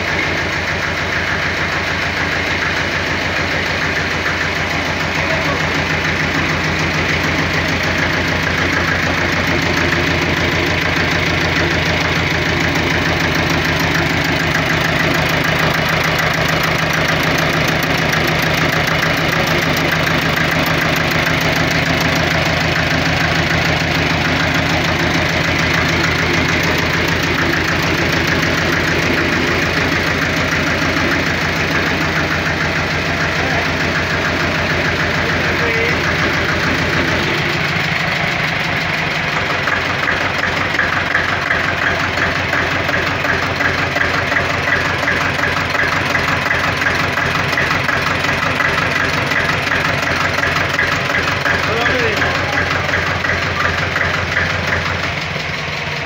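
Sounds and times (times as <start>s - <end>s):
deep engine hum: 0.0s - 56.0s
stationary engine clattering: 0.0s - 56.0s.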